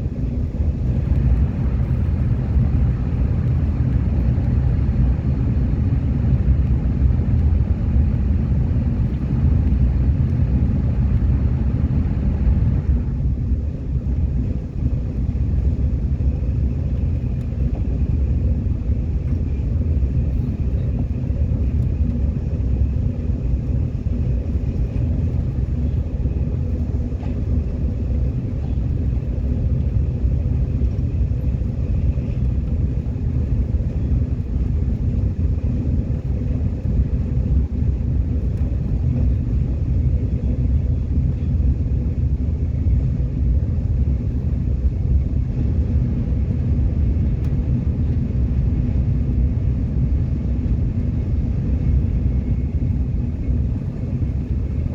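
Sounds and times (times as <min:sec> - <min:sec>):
faint steady whine: 0:00.0 - 0:54.9
subway train rumble: 0:00.0 - 0:54.9.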